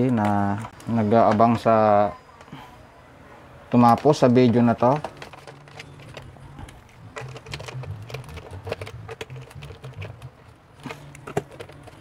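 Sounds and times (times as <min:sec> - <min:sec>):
plastic fan parts clicking: 0:00.0 - 0:01.7, 0:03.7 - 0:12.0.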